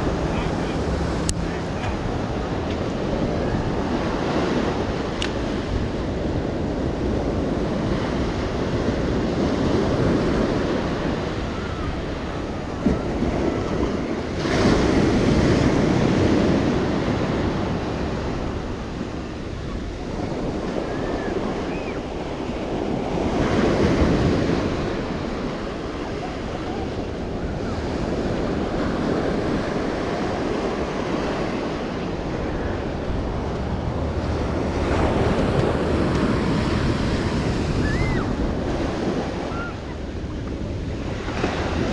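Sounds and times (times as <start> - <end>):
ocean waves breaking: 0.0 - 41.9
wind buffeting microphone: 0.0 - 41.9.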